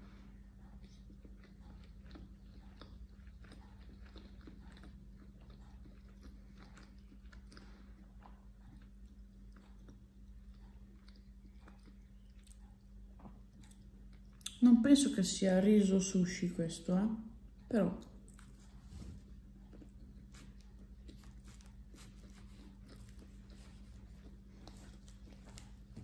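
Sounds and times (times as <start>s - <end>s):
chewing with soft mouth clicks: 0.0s - 15.1s, 17.2s - 26.0s
low steady hum: 0.0s - 26.0s.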